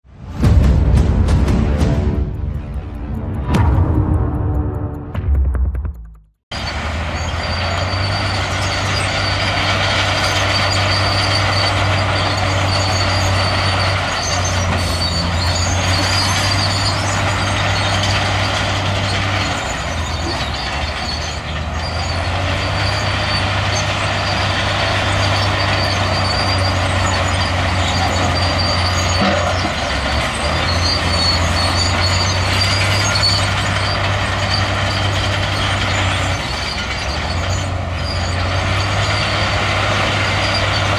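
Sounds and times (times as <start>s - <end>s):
heavy diesel engine running: 6.5s - 40.9s
rough mechanical noise: 6.5s - 40.9s.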